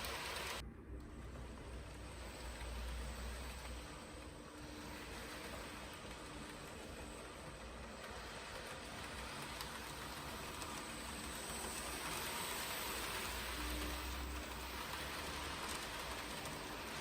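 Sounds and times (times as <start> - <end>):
model train wheels rolling on rail: 0.0 - 17.0.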